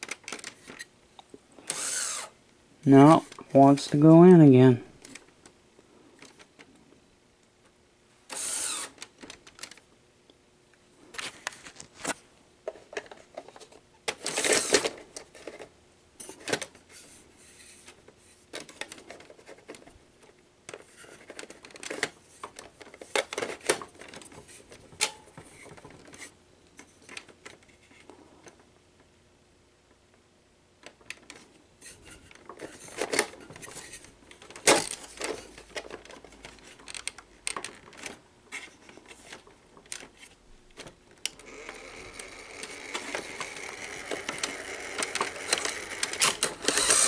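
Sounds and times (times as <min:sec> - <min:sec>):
cassette mechanism clicks and whirs: 0:00.0 - 0:06.8, 0:07.6 - 0:09.9, 0:11.1 - 0:17.0, 0:17.7 - 0:29.2, 0:29.8 - 0:47.0.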